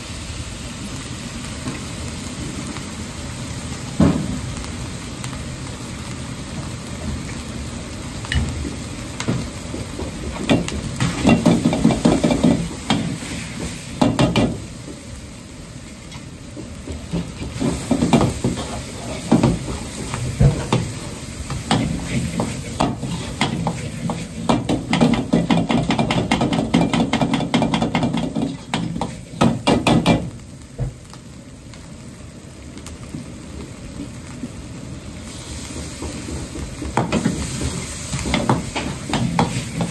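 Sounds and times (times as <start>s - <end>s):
meat sizzling in a wok: 0.0s - 39.9s.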